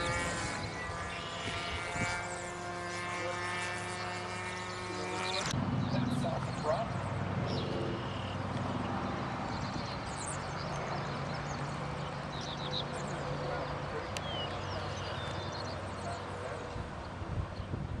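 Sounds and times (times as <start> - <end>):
wind on microphone: 0.0 - 8.0, 8.7 - 13.9, 14.5 - 18.0.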